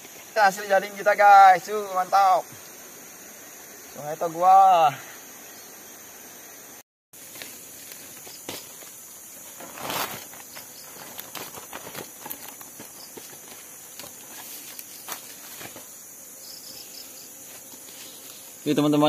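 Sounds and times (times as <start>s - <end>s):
night insects chorus: 0.0s - 19.0s
rustle: 0.0s - 19.0s.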